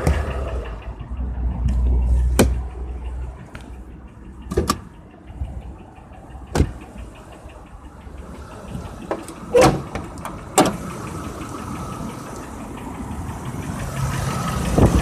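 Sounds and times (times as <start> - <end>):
deep engine rumble: 0.0 - 15.0
engine ticking knock: 0.0 - 15.0.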